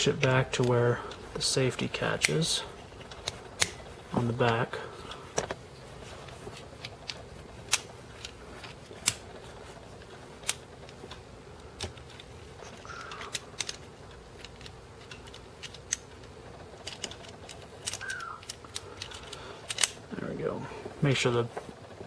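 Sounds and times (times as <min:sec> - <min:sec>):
sharp metal clicks: 0:00.0 - 0:05.5, 0:06.3 - 0:09.3, 0:10.0 - 0:20.1
rubbing and handling noise: 0:00.0 - 0:22.0.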